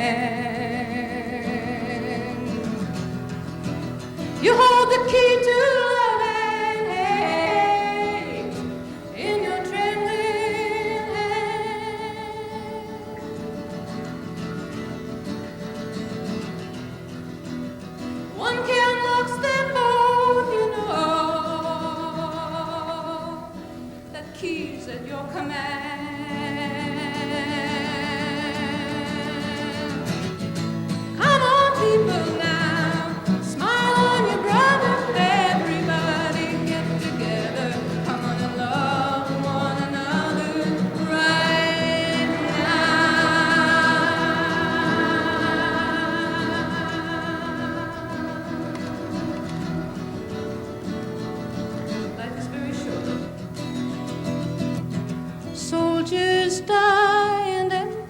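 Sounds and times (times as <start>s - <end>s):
woman singing with vibrato: 0.0s - 13.9s, 18.2s - 30.4s, 31.0s - 53.4s, 55.6s - 58.0s
strummed acoustic guitar: 0.0s - 58.0s.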